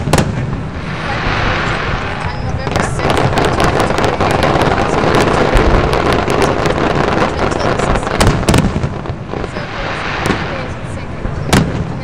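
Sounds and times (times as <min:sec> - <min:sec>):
fireworks reports and crackles: 0:00.0 - 0:12.0
wind buffeting microphone: 0:00.0 - 0:12.0.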